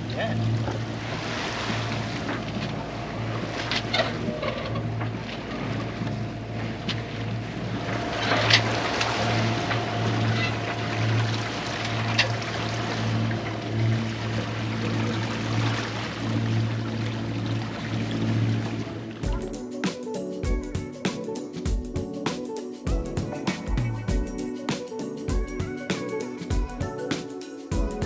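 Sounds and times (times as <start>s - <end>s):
boat engine running: 0.0s - 28.0s
wind and water hiss: 0.0s - 28.0s.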